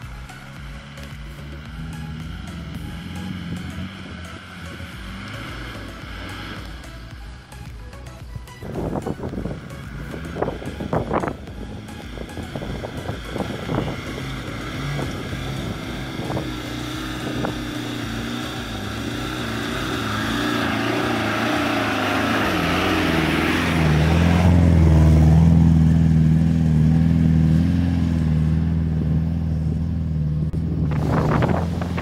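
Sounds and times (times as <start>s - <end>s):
vehicle engine working hard: 0.0s - 32.0s.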